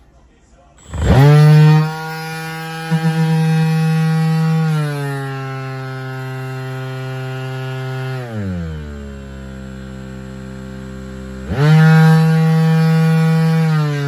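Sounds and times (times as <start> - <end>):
orbit sander motor whine: 0.8 - 14.0.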